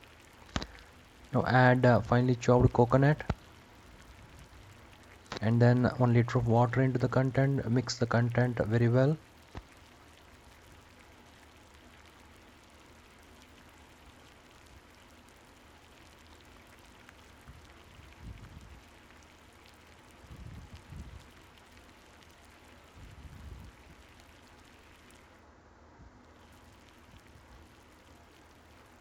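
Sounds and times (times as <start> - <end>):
crackling fizz from cooking pot: 0.0 - 25.5, 26.2 - 29.0.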